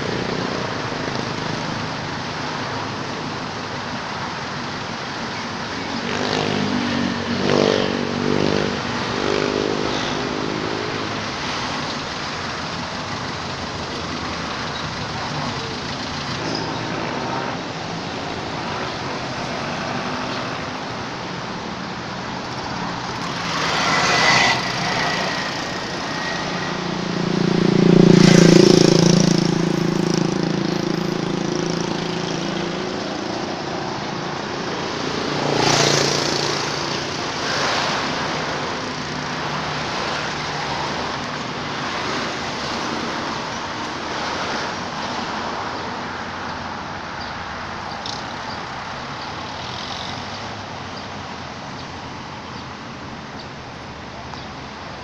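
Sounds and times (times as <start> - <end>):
steady traffic rush: 0.0 - 55.0
vehicles passing by: 0.0 - 55.0.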